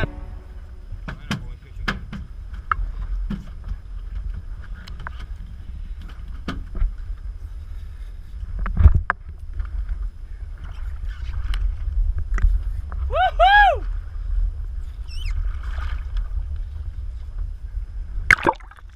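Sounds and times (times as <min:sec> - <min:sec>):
boat low rumble: 0:00.0 - 0:18.9.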